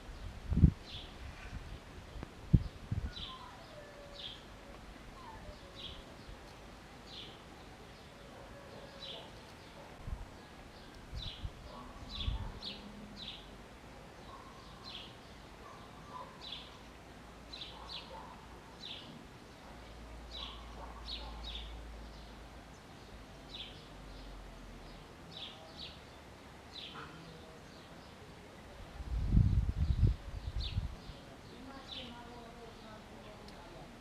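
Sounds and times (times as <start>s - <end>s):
small birds chirping: 0.1s - 34.0s.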